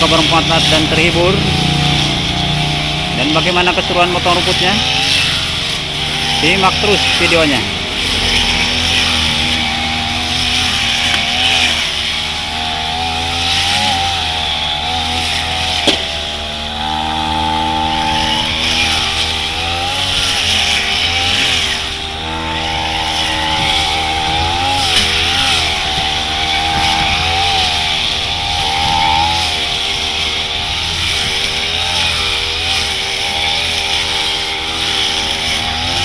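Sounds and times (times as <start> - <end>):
brush cutter cutting grass: 0.0 - 36.0.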